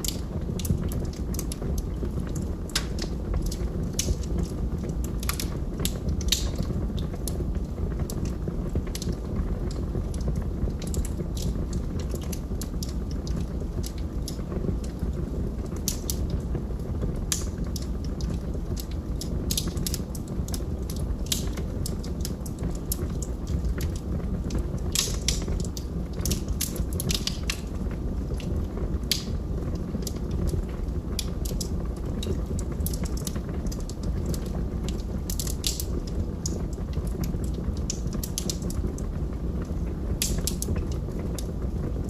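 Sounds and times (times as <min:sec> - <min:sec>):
logs crackling and popping: 0:00.0 - 0:42.0
low rumble of flames: 0:00.0 - 0:42.0.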